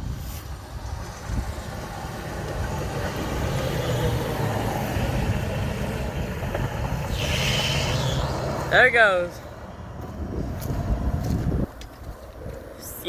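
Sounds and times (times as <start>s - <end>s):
truck engine passing: 0.1s - 11.8s.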